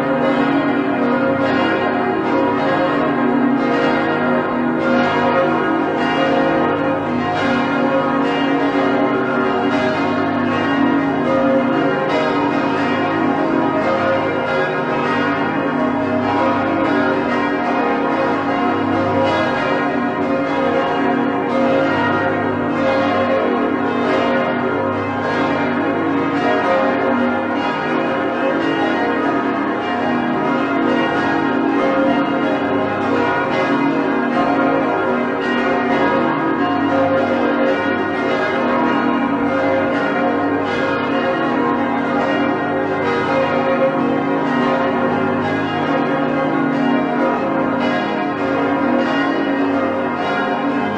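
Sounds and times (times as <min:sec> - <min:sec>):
church bells ringing: 0:00.0 - 0:50.9.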